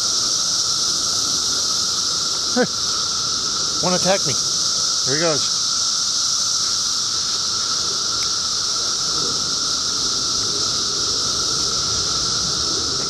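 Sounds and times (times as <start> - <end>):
cicadas chorus: 0.0 - 13.0.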